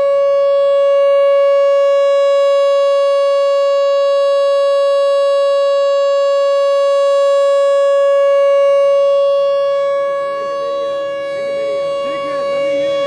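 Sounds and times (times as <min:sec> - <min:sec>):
warning siren steady tone: 0:00.0 - 0:13.0.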